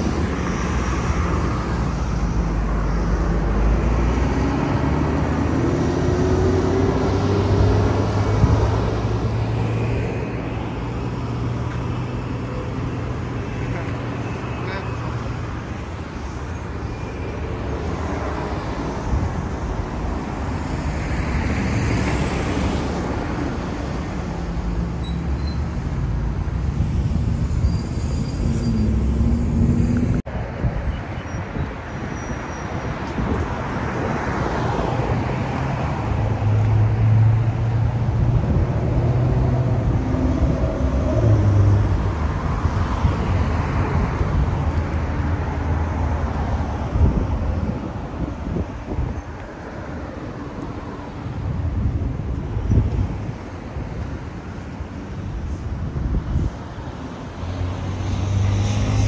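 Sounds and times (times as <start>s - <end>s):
vehicles passing on a road: 0.0s - 59.0s.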